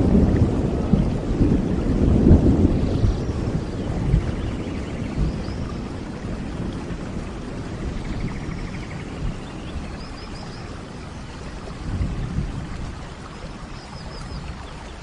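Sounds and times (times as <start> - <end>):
low rumble of thunder: 0.0 - 15.0
steady rain: 0.0 - 15.0.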